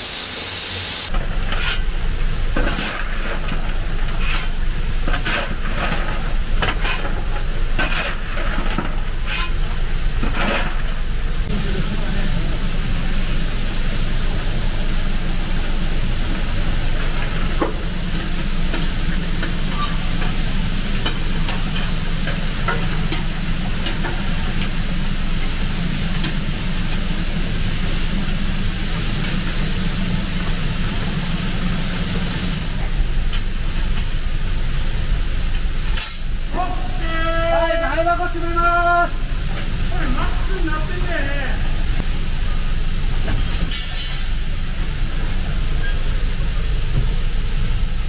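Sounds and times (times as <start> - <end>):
steam and water hissing: 0.0 - 48.0.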